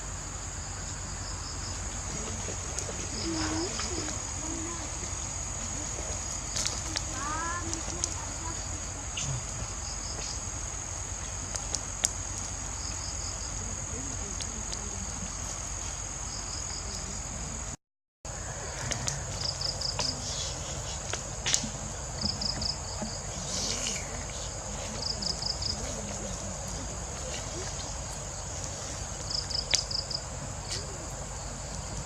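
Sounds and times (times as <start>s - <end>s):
insects shrilling: 0.0s - 17.3s, 18.3s - 32.0s
cricket-like chirps: 0.0s - 32.0s.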